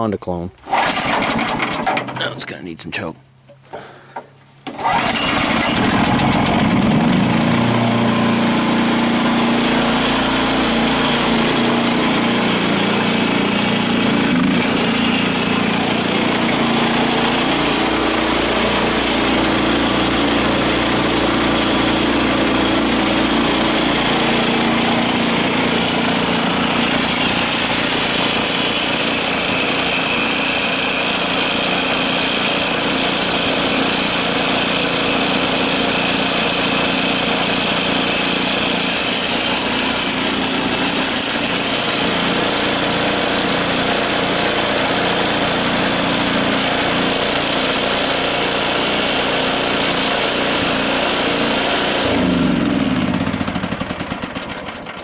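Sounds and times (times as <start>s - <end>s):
snowblower engine running: 0.7s - 2.4s, 3.9s - 55.0s.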